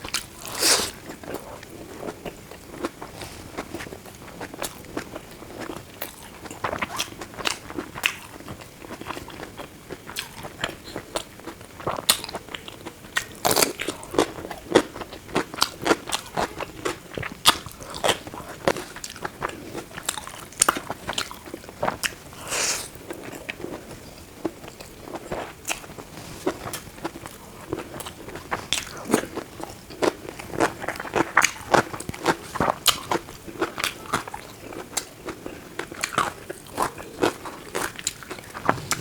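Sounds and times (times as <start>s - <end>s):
crunchy eating: 0.0s - 39.0s.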